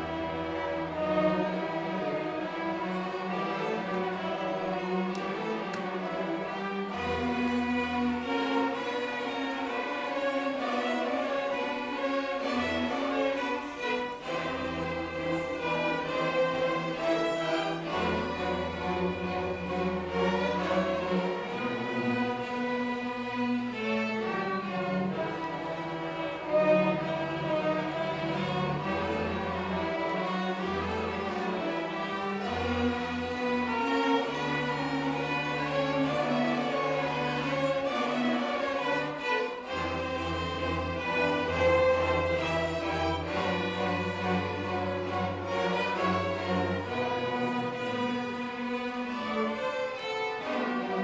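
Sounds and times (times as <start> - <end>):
cellos holding low notes: 0.0 - 51.0
string orchestra playing: 0.0 - 51.0.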